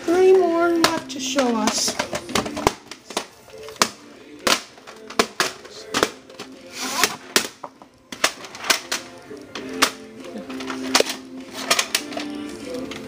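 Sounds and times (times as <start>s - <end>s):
plastic cassettes clicking and knocking: 0.0s - 13.0s.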